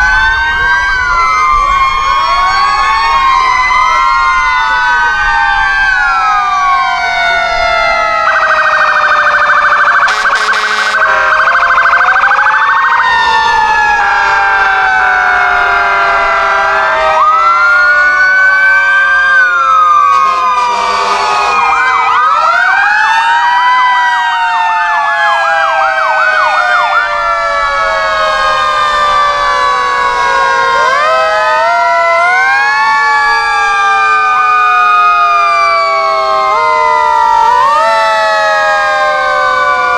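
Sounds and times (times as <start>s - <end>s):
police and fire engine sirens wailing: 0.0s - 39.9s.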